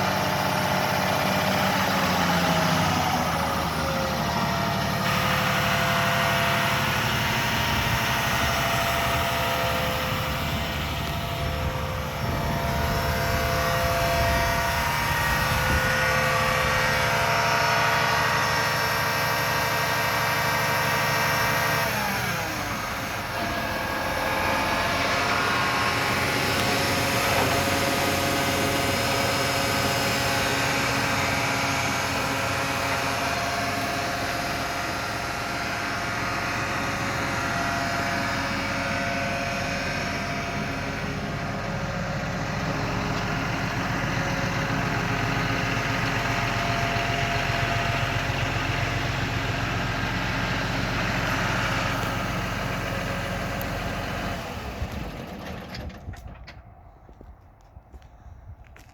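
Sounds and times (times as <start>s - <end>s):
tractor diesel engine idling: 0.0s - 58.9s.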